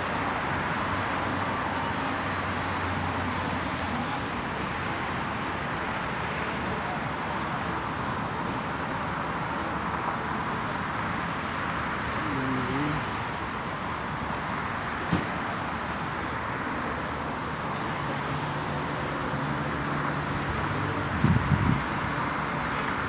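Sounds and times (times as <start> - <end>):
city square hum: 0.0 - 23.0.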